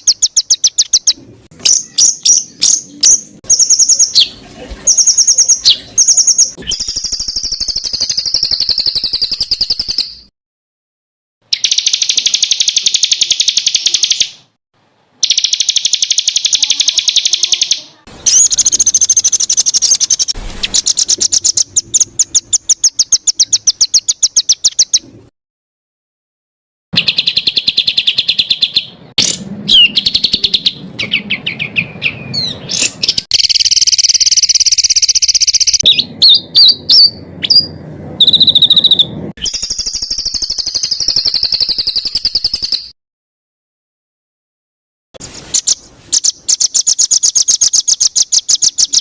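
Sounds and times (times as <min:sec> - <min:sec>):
songbird trilling: 0:00.0 - 0:04.3, 0:04.9 - 0:10.2, 0:11.5 - 0:14.4, 0:15.2 - 0:25.0, 0:27.0 - 0:42.9, 0:45.6 - 0:49.0.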